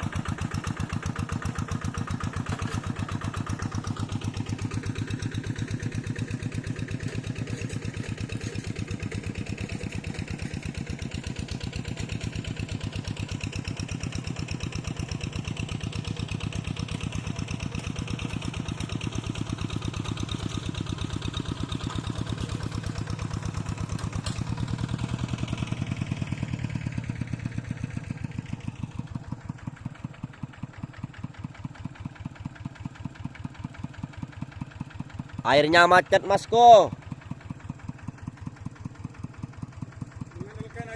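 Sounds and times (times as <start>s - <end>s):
tractor engine chugging: 0.0s - 40.9s.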